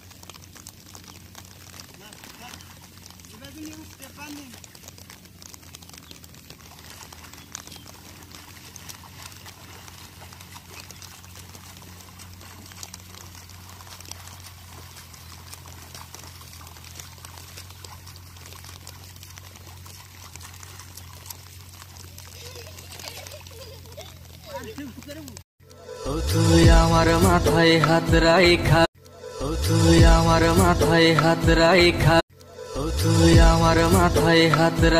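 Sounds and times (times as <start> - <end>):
rain falling on water: 0.0 - 34.9.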